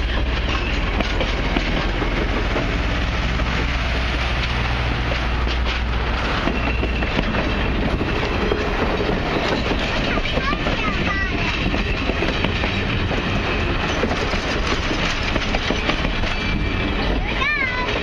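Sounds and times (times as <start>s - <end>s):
rail clicks and clacks: 0.0s - 18.0s
train wheels rumbling on rails: 0.0s - 18.0s.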